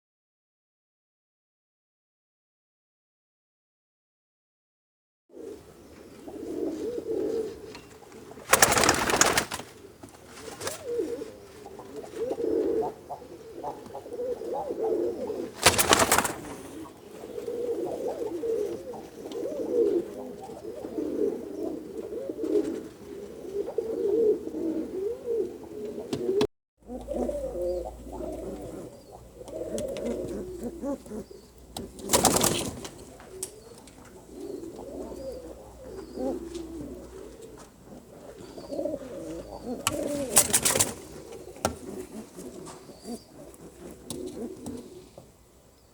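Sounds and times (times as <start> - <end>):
pigeons cooing: 5.3 - 45.9.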